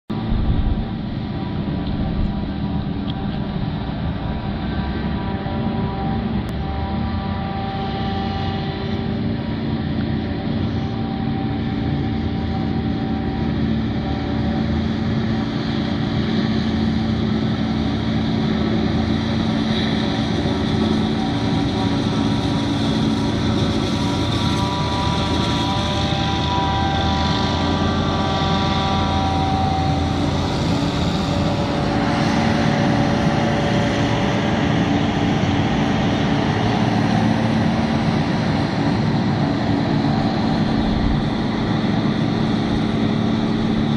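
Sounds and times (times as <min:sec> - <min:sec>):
higher whining tones: 0:00.1 - 0:43.9
loud machine drone: 0:00.1 - 0:43.9.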